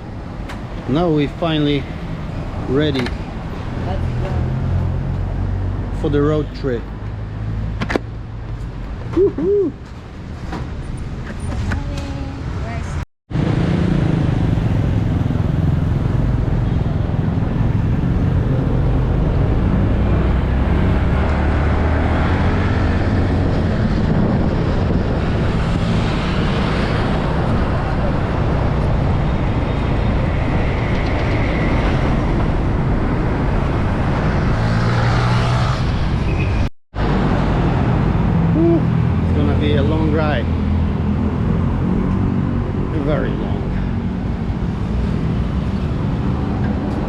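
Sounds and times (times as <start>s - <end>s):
road and rushing air noise: 0.0s - 47.0s.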